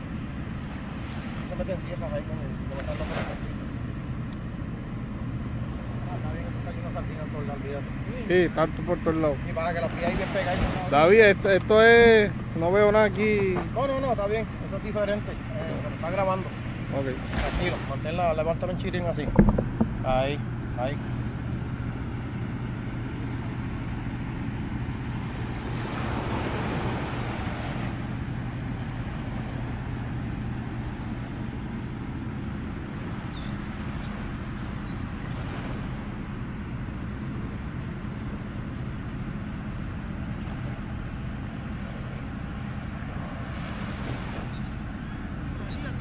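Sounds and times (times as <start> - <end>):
constant low hum: 0.0 - 46.0
small waves lapping: 0.0 - 46.0.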